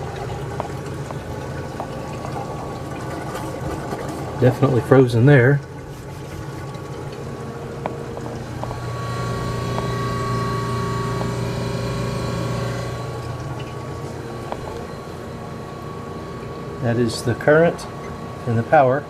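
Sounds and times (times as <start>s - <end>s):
refrigerator compressor humming: 0.0s - 19.0s.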